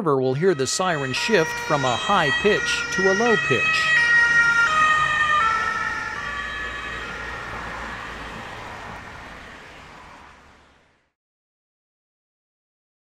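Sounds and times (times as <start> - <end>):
ambulance siren passing: 0.2 - 11.0.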